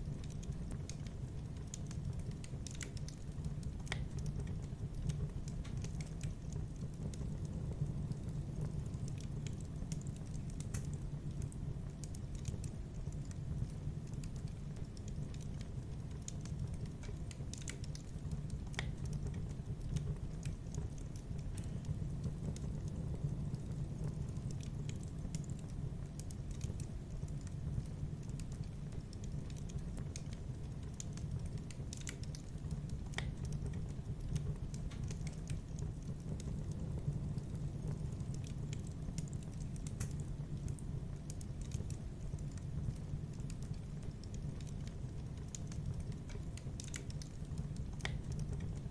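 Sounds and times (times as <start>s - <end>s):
fire crackling in fireplace: 0.0s - 48.9s.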